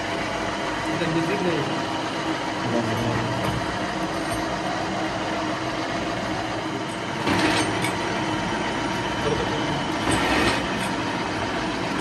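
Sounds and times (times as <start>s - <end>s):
machinery mechanical drone: 0.0s - 12.0s.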